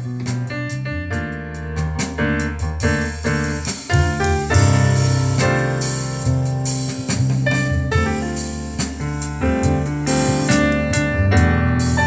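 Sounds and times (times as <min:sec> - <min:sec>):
piano-led music with drums: 0:00.0 - 0:12.0.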